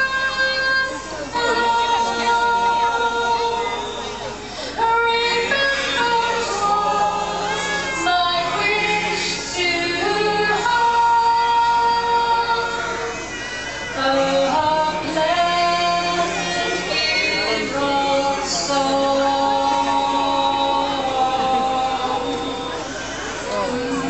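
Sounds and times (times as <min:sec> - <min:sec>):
voices singing together: 0:00.0 - 0:24.0.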